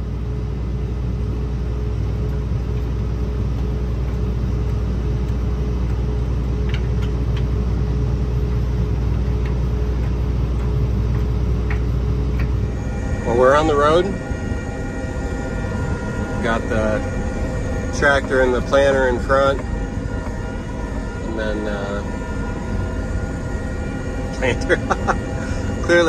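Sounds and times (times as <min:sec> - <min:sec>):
tractor engine idling: 0:02.3 - 0:26.0.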